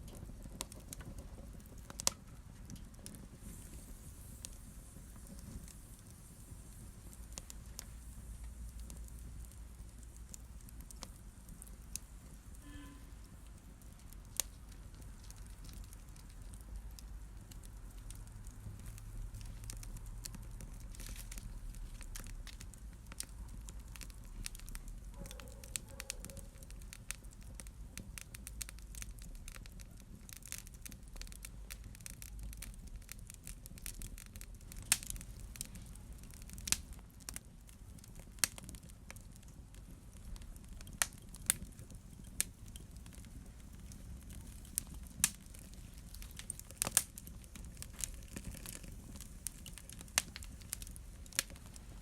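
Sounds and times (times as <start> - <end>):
low rumble of flames: 0.0 - 52.0
wood fire crackling and popping: 0.0 - 52.0.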